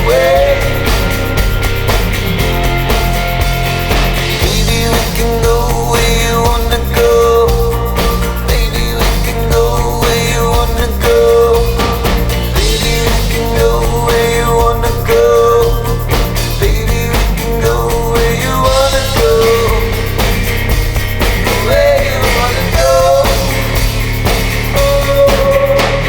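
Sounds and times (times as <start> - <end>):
rock band playing: 0.0 - 26.0
sustained lead guitar line: 0.0 - 26.0.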